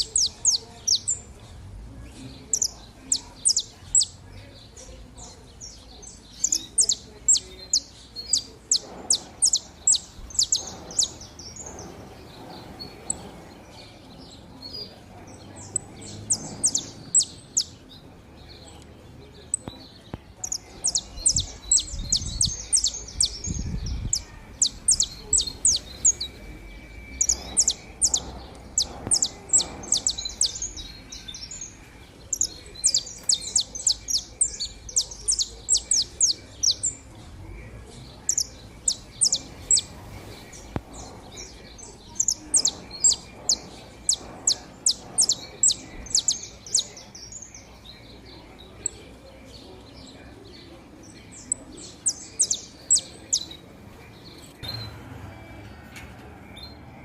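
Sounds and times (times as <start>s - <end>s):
finches chirping: 0.0s - 54.8s.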